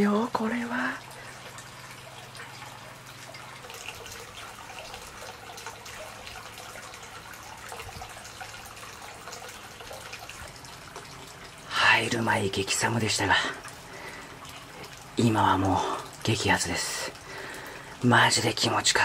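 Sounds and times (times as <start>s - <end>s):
water trickling into bath: 0.0s - 19.0s.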